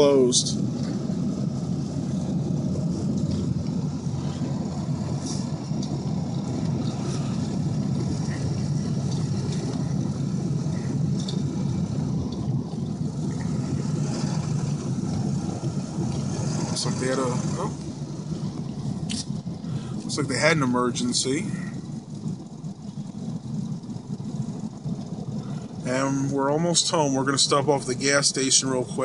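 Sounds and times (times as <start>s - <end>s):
engine and road rumble in cab: 0.0s - 29.0s.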